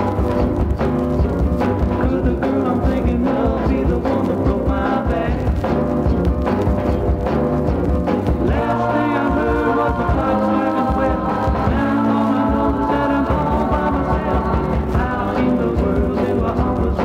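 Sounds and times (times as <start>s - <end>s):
soul song with full band: 0.0s - 17.0s.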